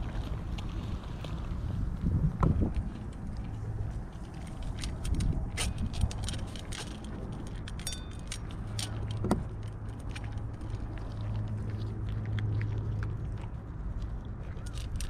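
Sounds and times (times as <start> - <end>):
cat crunching kibble: 0.1 - 15.0.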